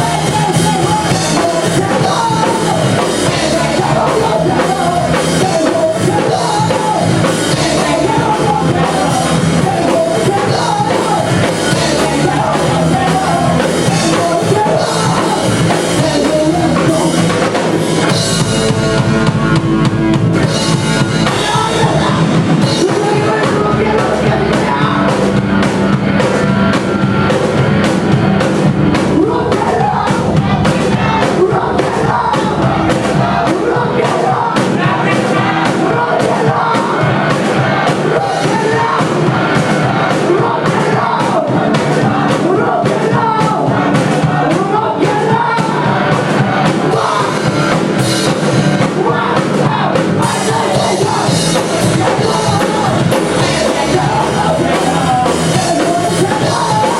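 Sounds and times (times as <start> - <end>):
person singing: 0.0 - 19.3, 20.4 - 56.9
drum kit: 0.0 - 56.9
live rock band playing: 0.0 - 56.9.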